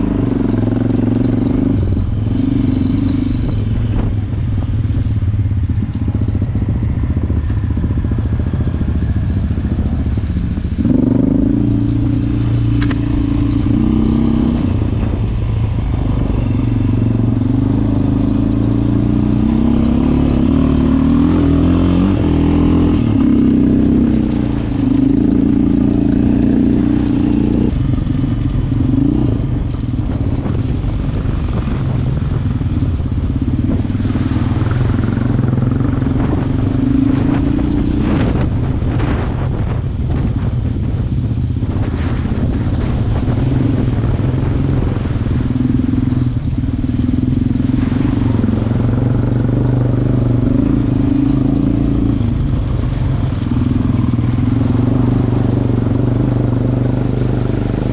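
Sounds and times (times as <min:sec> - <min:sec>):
quad engine running: 0:00.0 - 0:57.9.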